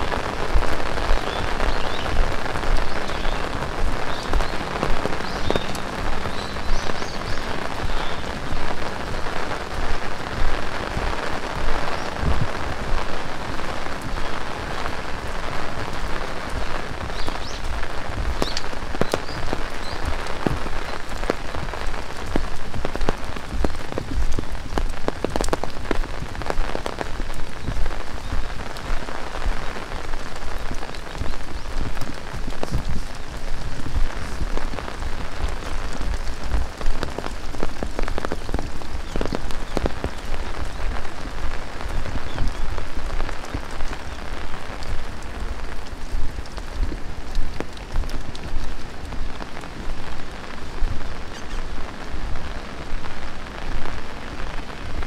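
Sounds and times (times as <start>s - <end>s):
heavy rain: 0.0s - 55.0s
raindrops ticking: 0.0s - 55.0s.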